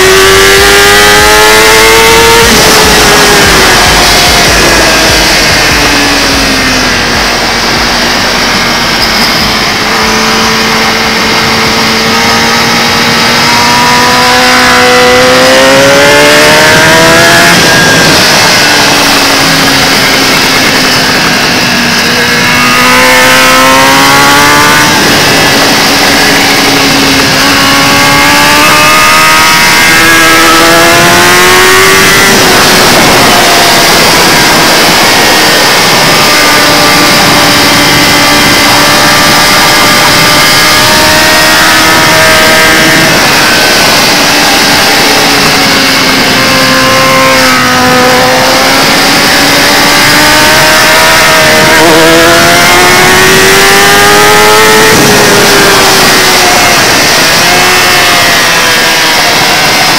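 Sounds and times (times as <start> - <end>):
dense rushing noise: 0.0 - 59.9
motorcycle engine revving: 0.0 - 59.9.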